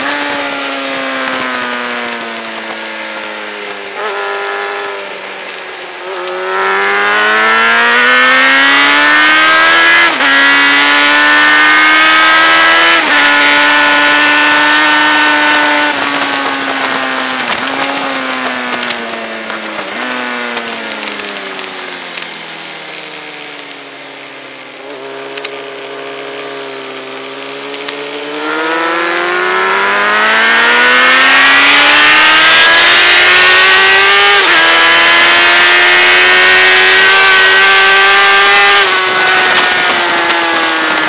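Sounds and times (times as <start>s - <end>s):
sport motorcycle engine revving: 0.0s - 22.2s, 24.7s - 41.0s.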